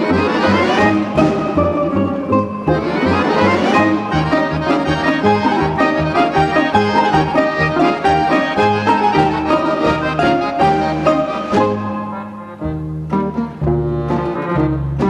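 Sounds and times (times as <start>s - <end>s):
lively folk dance music: 0.0s - 15.0s.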